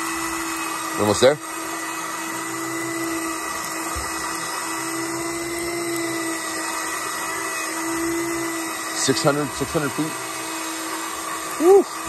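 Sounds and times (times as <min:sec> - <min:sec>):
fishing reel motor whining: 0:00.0 - 0:12.0.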